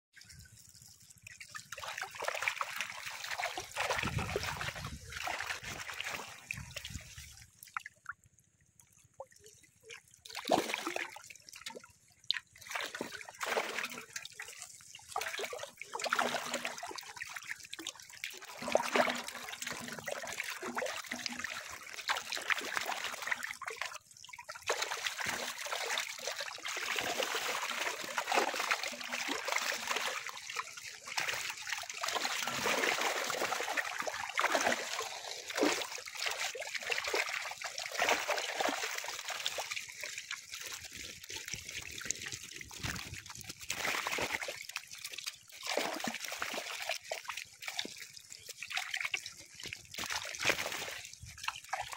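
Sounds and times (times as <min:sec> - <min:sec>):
water splashing and trickling: 0:00.1 - 0:51.9.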